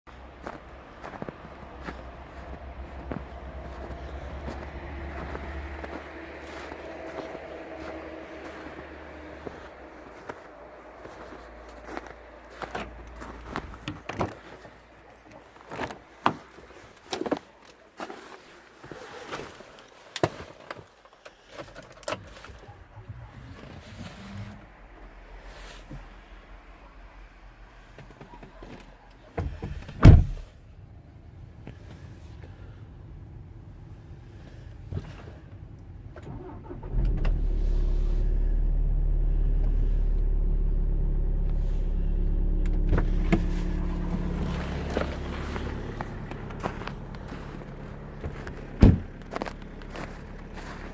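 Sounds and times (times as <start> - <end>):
low steady hum: 0.1 - 16.2, 22.7 - 50.9
diesel engine starting and running: 0.1 - 18.5, 21.5 - 50.9.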